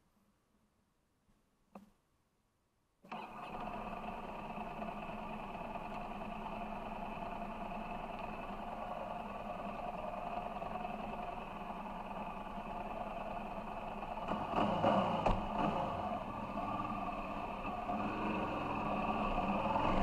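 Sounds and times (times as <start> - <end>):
motorcycle engine at low revs: 3.1 - 20.0.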